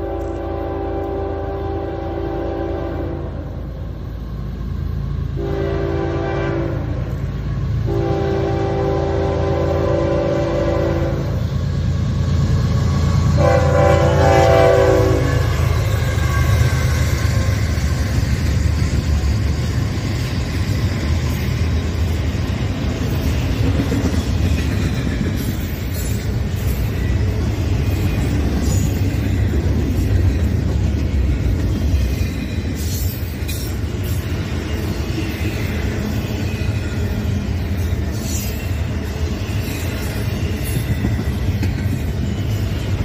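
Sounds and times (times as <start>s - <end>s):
freight train wheels rumbling on rail: 0.0s - 43.0s.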